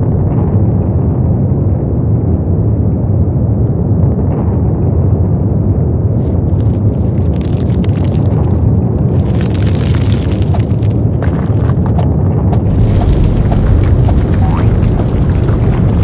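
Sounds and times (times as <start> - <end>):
loud low rumble: 0.0 - 16.0.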